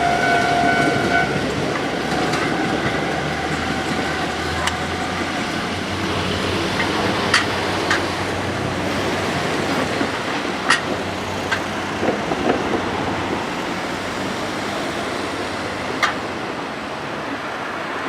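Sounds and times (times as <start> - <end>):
diesel train rumbling past: 0.0 - 18.0.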